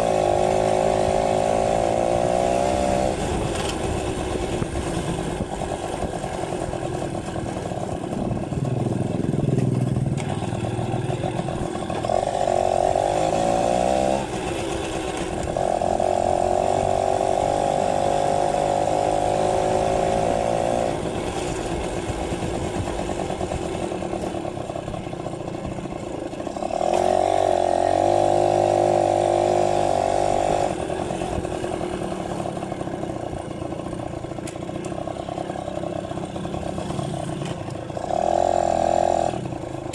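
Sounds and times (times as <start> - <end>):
moped engine revving: 0.0 - 39.9.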